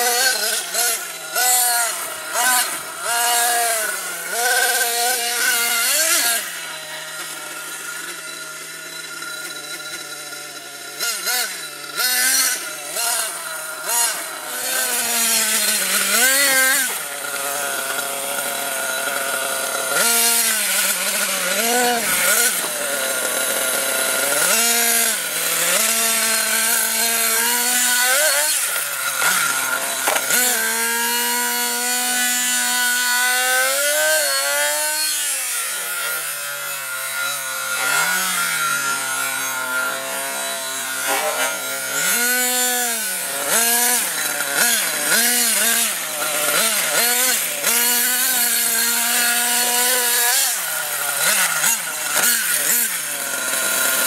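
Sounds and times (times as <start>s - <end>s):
rc truck engine buzzing and revving: 0.0s - 54.0s.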